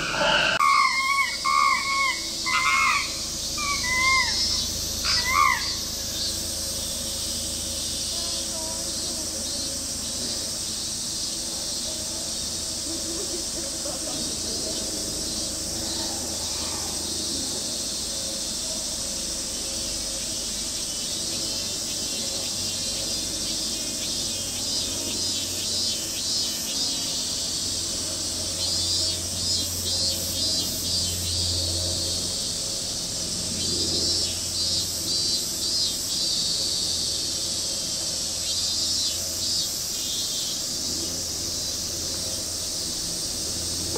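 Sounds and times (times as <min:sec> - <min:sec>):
cicadas buzzing: 0:00.0 - 0:43.9.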